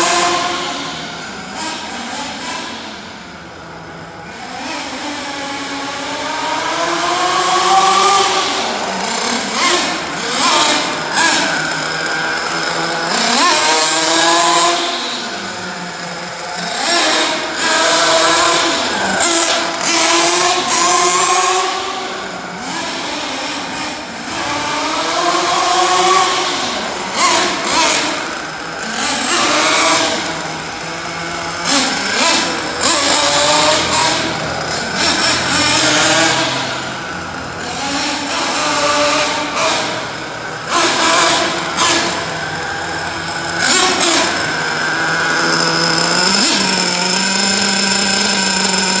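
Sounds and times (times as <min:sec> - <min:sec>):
model car engine revving: 0:00.0 - 0:49.0.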